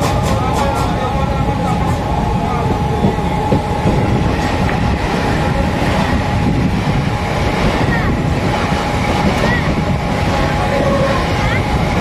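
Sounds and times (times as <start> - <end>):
train wheels rumbling and clattering: 0.0 - 12.0.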